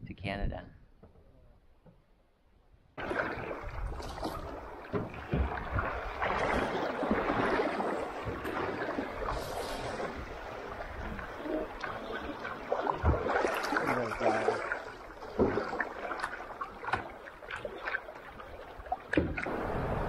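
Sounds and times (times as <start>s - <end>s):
kayak knocks and splashes: 3.0s - 19.7s.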